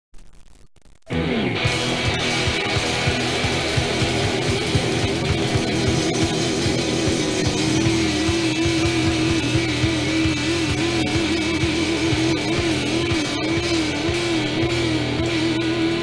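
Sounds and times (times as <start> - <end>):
punk rock band playing: 1.1 - 16.0.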